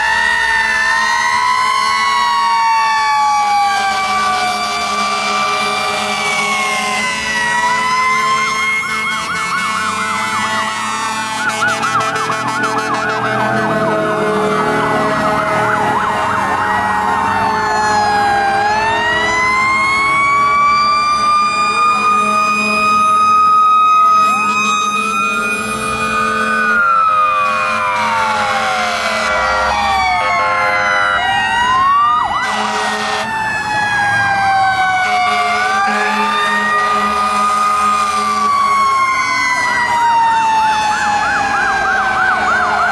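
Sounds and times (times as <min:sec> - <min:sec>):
fire truck sirens wailing: 0:00.0 - 0:42.9
siren warbling yelp: 0:00.0 - 0:42.9.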